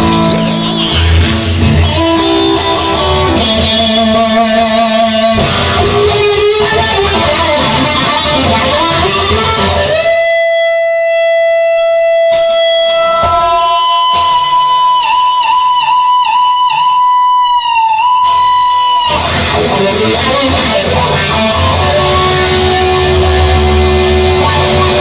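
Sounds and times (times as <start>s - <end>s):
held guitar note: 0.0s - 16.8s, 17.8s - 25.0s
instrumental guitar music: 0.0s - 25.0s.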